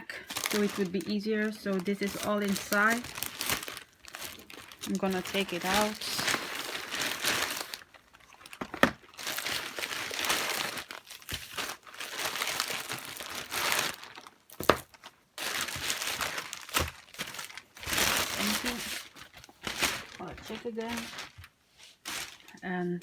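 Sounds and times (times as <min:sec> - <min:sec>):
packaging snapping: 0:00.2 - 0:21.5
packaging crinkling and rustling: 0:00.2 - 0:22.7.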